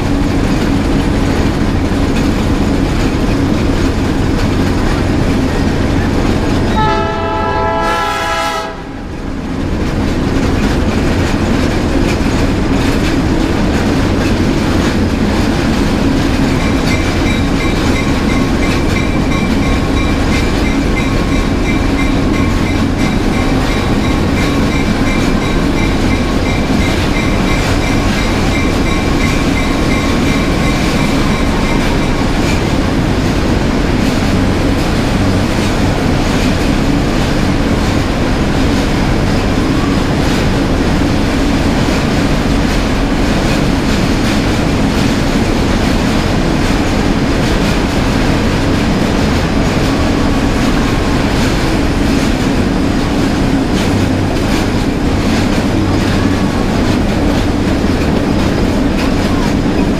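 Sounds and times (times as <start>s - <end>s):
diesel locomotive running: 0.0s - 59.9s
train wheels rolling on rails: 0.0s - 59.9s.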